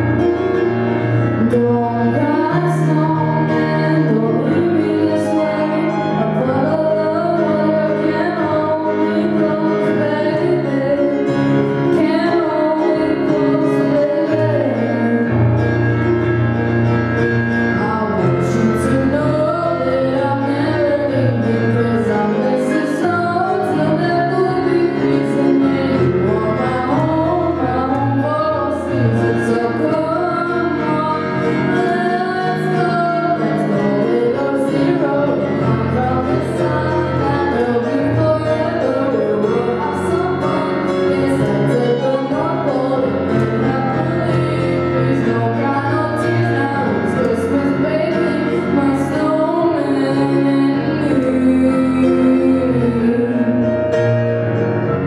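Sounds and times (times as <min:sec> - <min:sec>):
digital piano chords: 0:00.0 - 0:55.0
woman singing ballad: 0:00.1 - 0:15.7, 0:17.7 - 0:54.1.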